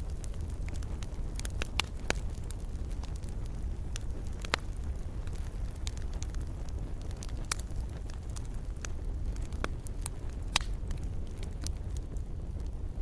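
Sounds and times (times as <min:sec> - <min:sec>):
fire crackling and popping: 0:00.0 - 0:13.0
low rumble of flame: 0:00.0 - 0:13.0.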